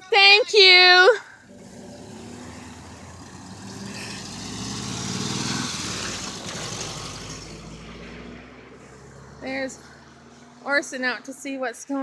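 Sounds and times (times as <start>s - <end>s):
car driving past: 1.4s - 11.5s.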